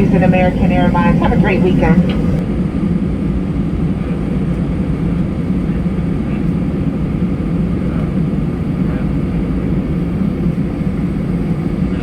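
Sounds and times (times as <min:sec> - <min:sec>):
aircraft engines idling in cabin: 0:00.0 - 0:12.0.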